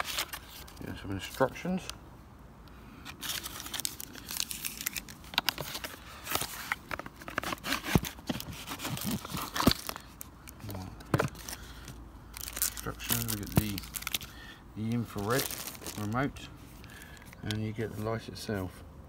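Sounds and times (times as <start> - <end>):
paper and plastic crinkling: 0.0 - 1.9, 3.0 - 18.2.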